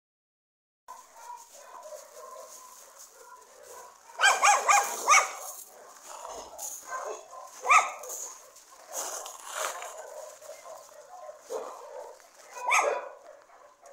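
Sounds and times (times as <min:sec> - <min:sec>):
dogs barking and yipping: 0:00.9 - 0:13.9.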